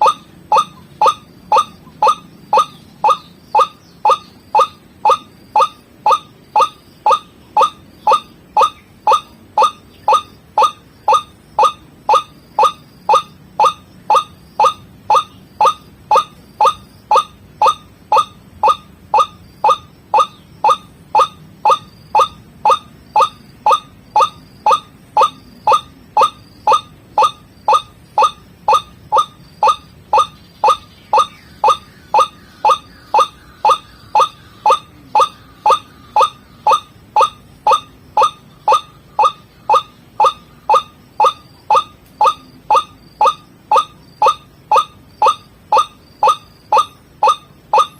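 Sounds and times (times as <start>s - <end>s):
waterhen call repeated falling note: 0.0s - 47.9s.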